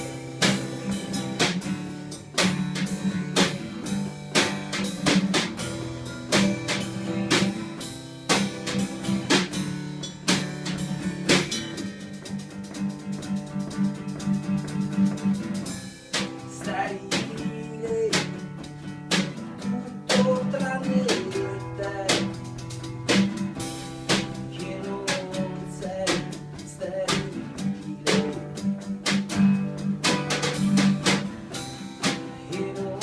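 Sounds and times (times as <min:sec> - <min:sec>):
guitar: 0:00.0 - 0:33.0
live band playing: 0:00.0 - 0:33.0
steady drum beats: 0:00.0 - 0:33.0.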